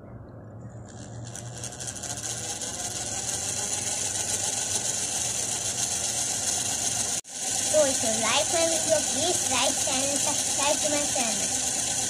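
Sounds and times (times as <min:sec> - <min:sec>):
toy motor and gearbox whirring: 0:00.7 - 0:12.0.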